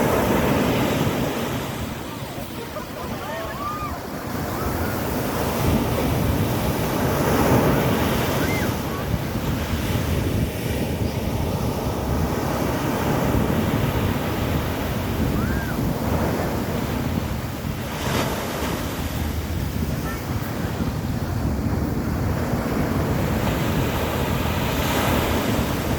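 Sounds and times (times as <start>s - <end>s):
sea waves breaking on beach: 0.0s - 25.9s
wind rumbling on microphone: 0.0s - 25.9s.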